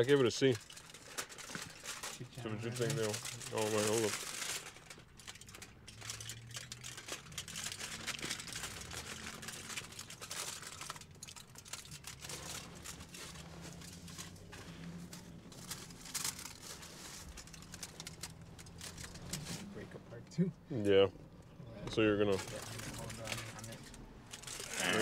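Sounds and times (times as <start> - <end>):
wrapper crinkling and rustling: 0.0 - 19.9, 21.9 - 25.0.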